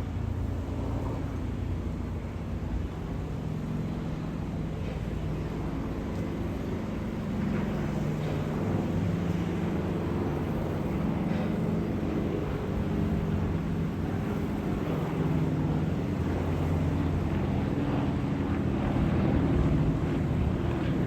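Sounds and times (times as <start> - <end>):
aircraft engines droning: 0.0 - 21.0.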